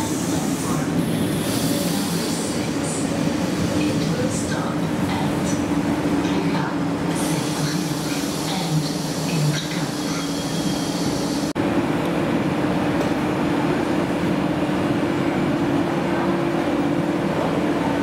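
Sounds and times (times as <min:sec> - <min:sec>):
train rolling with steady hum: 0:00.0 - 0:18.0.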